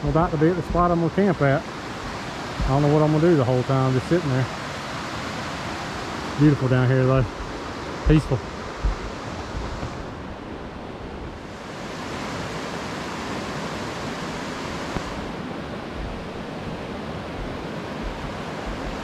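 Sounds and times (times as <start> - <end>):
river rapids rushing: 0.0 - 19.0.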